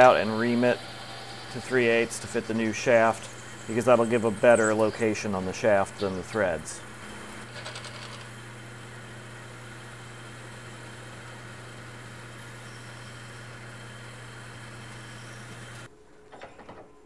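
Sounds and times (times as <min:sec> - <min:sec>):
light metal cutting noise: 0:00.0 - 0:08.4, 0:10.0 - 0:16.7
metal lathe motor hum: 0:00.0 - 0:15.9.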